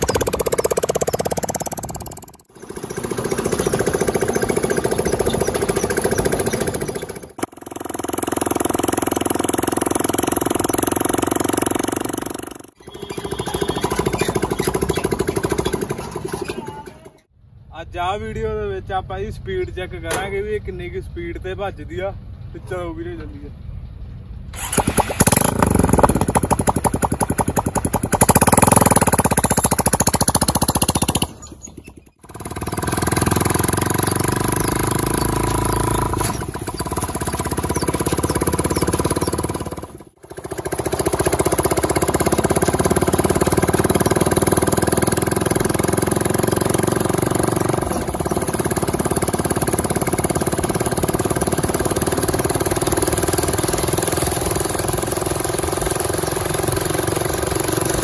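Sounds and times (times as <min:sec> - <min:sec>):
motorcycle engine running: 0:00.0 - 0:17.3, 0:24.6 - 0:58.0.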